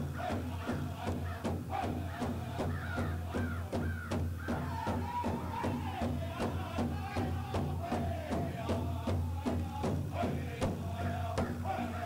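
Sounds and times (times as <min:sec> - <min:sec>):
background music with quick beat: 0:00.0 - 0:12.0.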